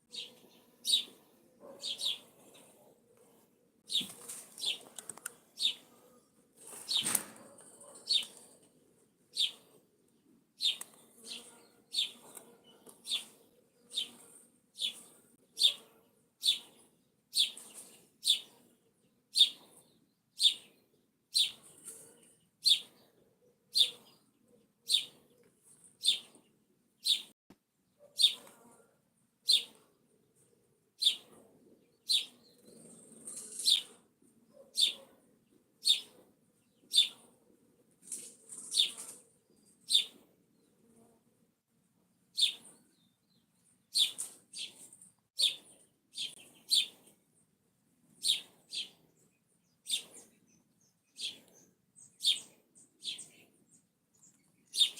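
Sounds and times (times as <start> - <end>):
bird chirping: 0.0 - 2.9, 3.8 - 5.9, 6.8 - 8.6, 9.3 - 9.8, 10.6 - 28.5, 29.4 - 30.4, 31.0 - 37.3, 38.2 - 40.8, 42.3 - 47.2, 48.2 - 54.9.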